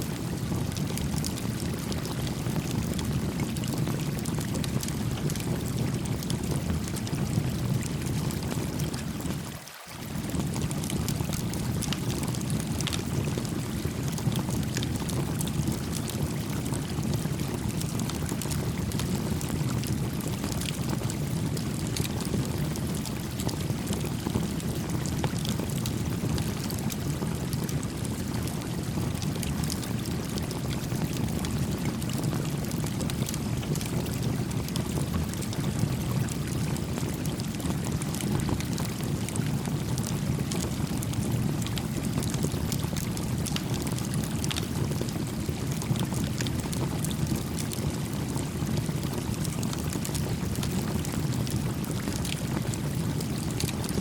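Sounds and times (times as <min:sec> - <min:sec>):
campfire crackling and popping: 0:00.2 - 0:09.4, 0:10.2 - 0:54.0.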